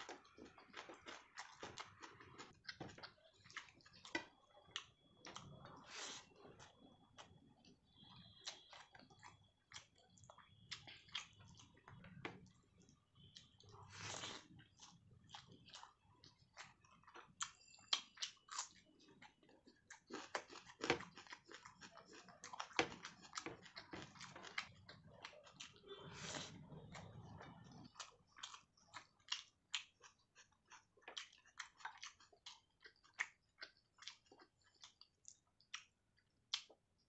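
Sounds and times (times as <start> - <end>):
person chewing with wet clicks: 0.0 - 37.0.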